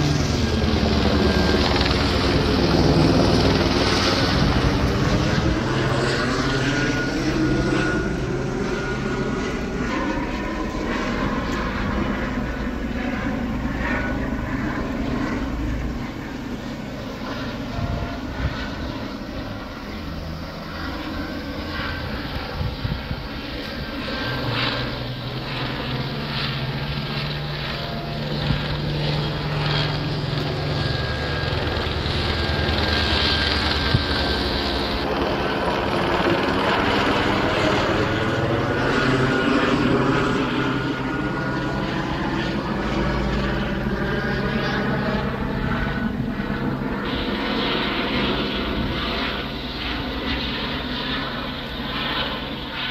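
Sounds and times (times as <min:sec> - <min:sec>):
helicopter rotor drone: 0:00.0 - 0:52.9.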